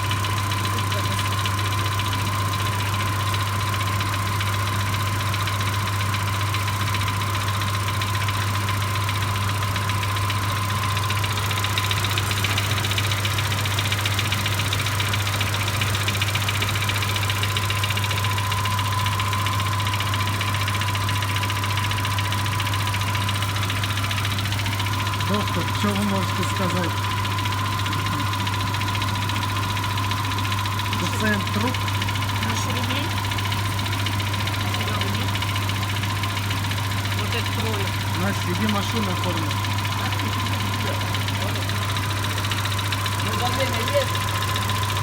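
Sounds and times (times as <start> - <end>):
car engine idling with knock: 0.0 - 45.0.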